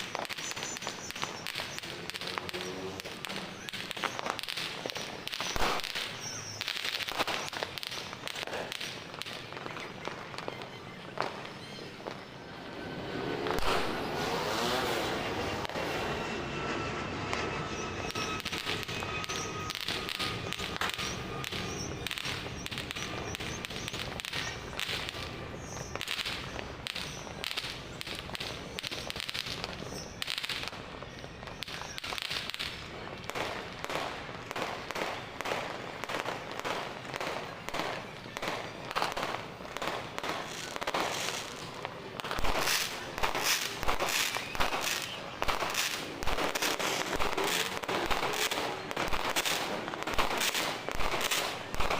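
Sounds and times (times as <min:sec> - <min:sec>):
fireworks and firecrackers banging: 0:00.0 - 0:51.9.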